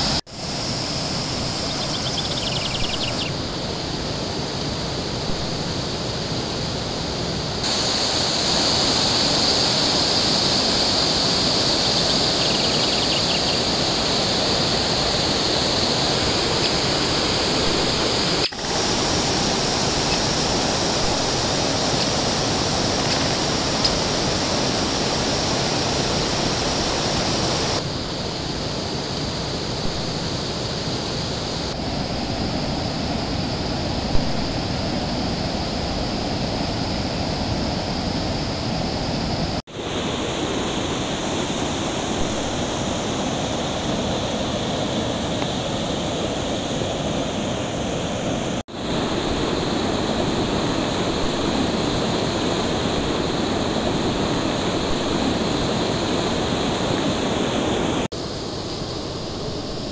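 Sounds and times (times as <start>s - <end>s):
river water rushing over rapids: 0.0s - 59.9s.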